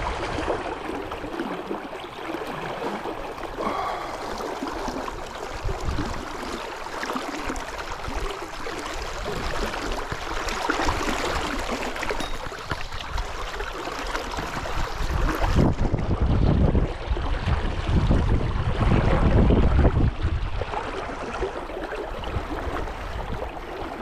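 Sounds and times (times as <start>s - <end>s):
brook water running: 0.0s - 24.0s.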